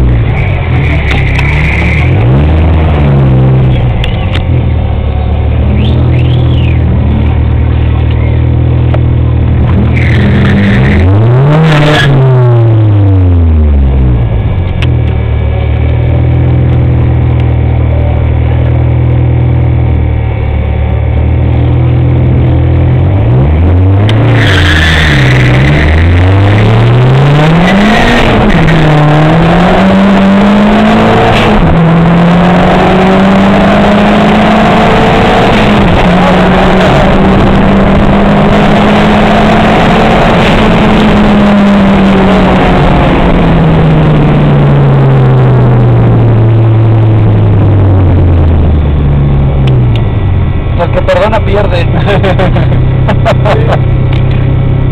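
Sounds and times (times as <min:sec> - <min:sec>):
racing car engines revving: 0:00.0 - 0:54.9.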